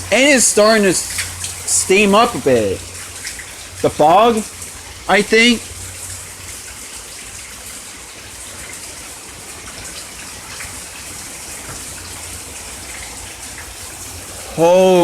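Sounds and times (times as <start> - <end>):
water rushing and running off: 0.0 - 15.0.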